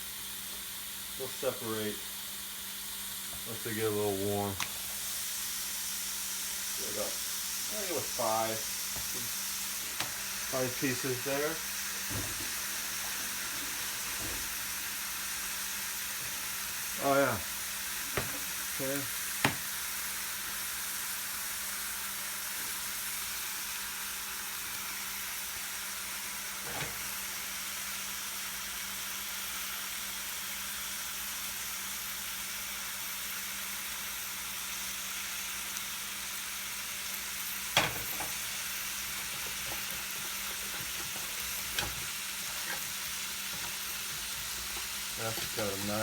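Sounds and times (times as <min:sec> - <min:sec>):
bacon sizzling in a pan: 0:00.0 - 0:46.0.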